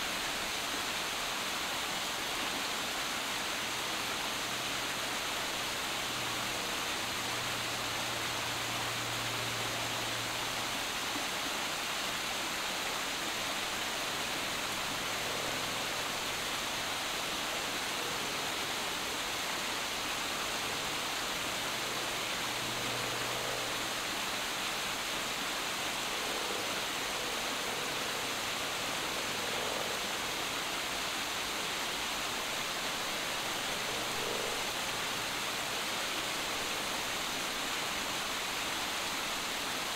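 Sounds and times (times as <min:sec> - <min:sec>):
waterfall splashing over boulders: 0:00.0 - 0:39.9.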